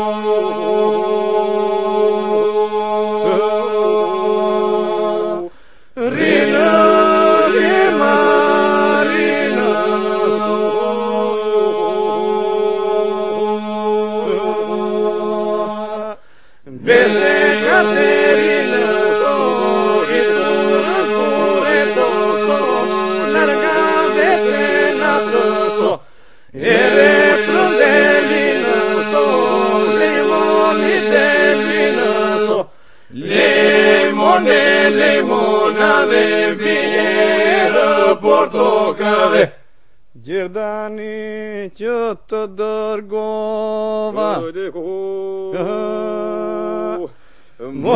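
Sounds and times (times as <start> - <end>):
group singing a cappella: 0.0 - 39.6, 40.2 - 47.9.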